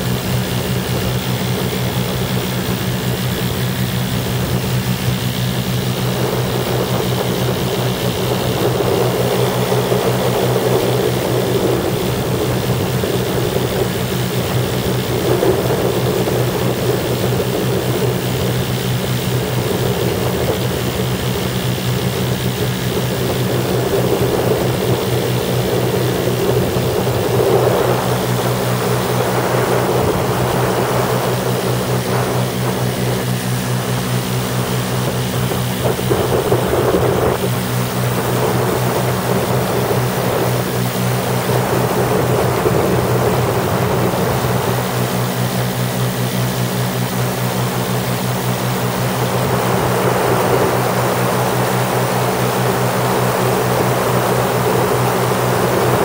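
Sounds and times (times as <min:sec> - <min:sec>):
aircraft engines droning: 0:00.0 - 0:56.0
wind noise on microphone: 0:00.0 - 0:56.0.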